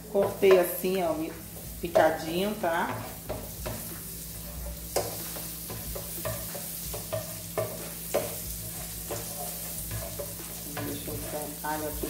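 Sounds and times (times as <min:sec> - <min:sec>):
garlic sizzling in a pan: 0:00.0 - 0:12.0
spoon scraping and tapping pan: 0:00.1 - 0:12.0.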